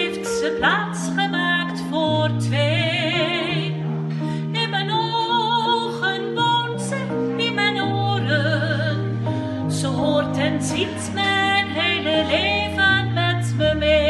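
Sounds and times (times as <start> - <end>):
steady bass notes: 0.0 - 14.0
woman singing a slow ballad: 0.0 - 14.0.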